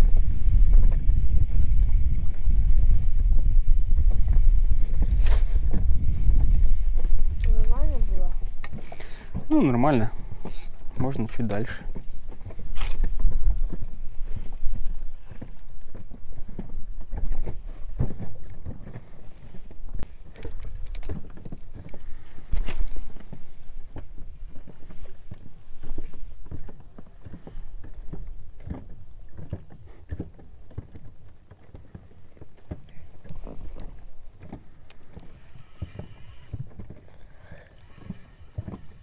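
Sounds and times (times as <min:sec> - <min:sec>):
water lapping against boat hull: 0:00.0 - 0:39.0
wind rumbling on microphone: 0:00.0 - 0:39.0.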